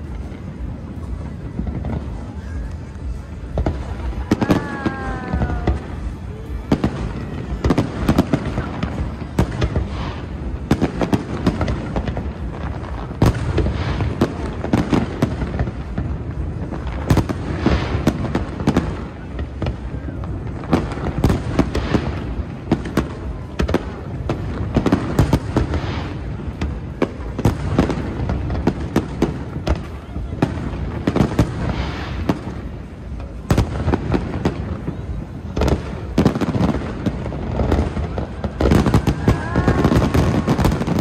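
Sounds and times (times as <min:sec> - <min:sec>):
fireworks bangs: 0:00.0 - 0:41.0.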